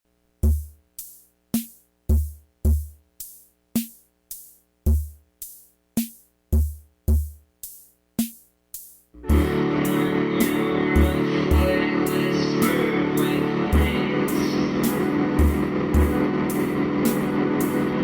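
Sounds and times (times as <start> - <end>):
drum machine beat: 0.4 - 17.9.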